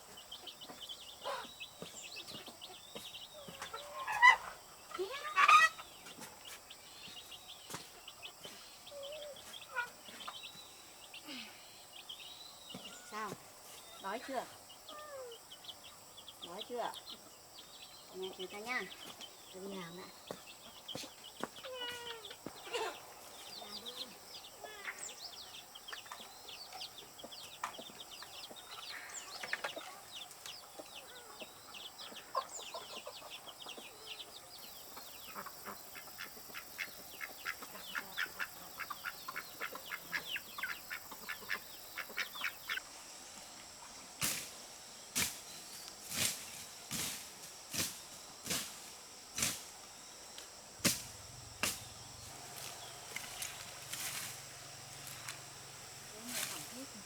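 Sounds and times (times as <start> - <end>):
birds chirping: 0.0 - 42.9, 49.4 - 57.0.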